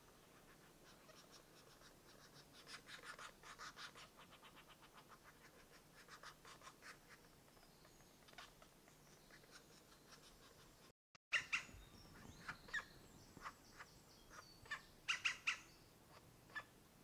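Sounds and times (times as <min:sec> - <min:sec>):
woodpecker nestlings begging: 0:00.4 - 0:16.7.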